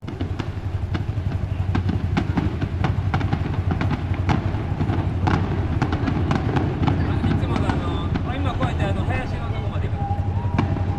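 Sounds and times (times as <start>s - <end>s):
fireworks crackling and popping: 0.0s - 10.9s
fireworks rumbling: 0.0s - 10.9s.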